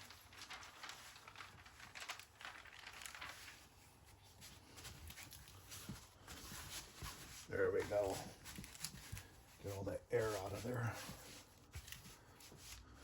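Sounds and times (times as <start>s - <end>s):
plastic film rustling and crinkling: 0.0s - 13.0s.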